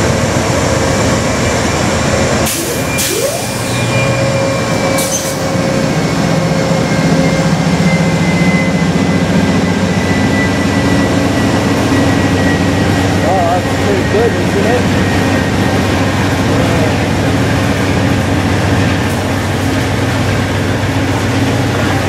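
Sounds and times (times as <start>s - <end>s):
diesel locomotive engine: 0.0s - 22.0s
train wheels on rails: 0.0s - 22.0s.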